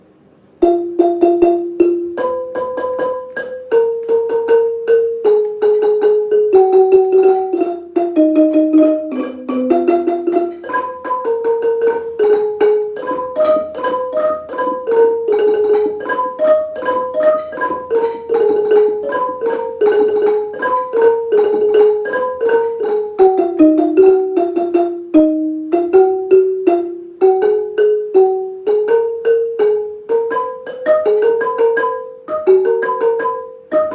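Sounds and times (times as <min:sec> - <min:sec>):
xylophone melody: 0:00.6 - 0:33.9.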